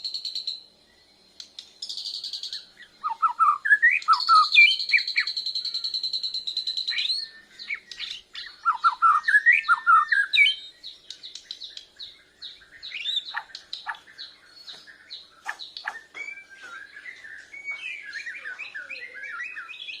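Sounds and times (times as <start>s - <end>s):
bird singing: 0.0s - 20.0s.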